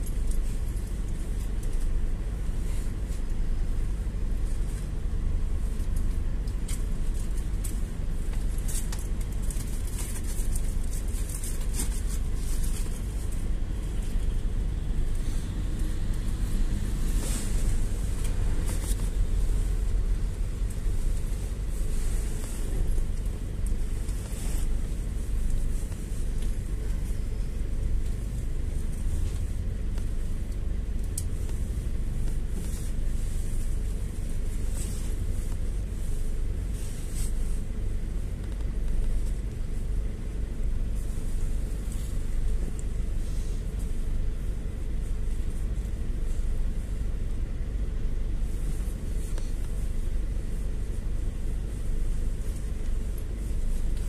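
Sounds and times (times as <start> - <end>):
light rattles and clicks: 0.0 - 54.0
minibus engine and road rumble: 0.0 - 54.0.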